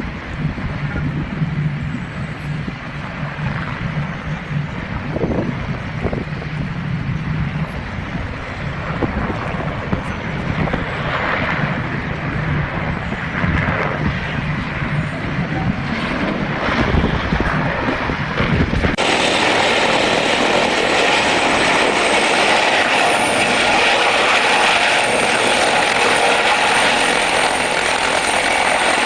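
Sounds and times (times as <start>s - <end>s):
engine drone: 0.0s - 29.0s
wind noise on microphone: 0.0s - 29.0s.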